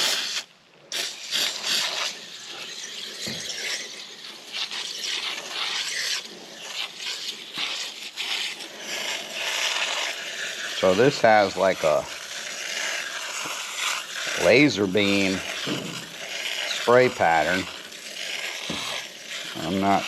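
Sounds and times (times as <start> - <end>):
aerosol spray hissing: 0.0 - 20.0.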